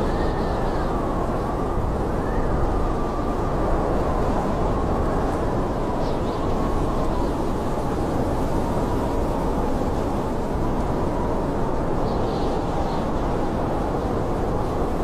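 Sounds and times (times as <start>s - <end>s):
blizzard wind whistling: 0.0s - 15.0s.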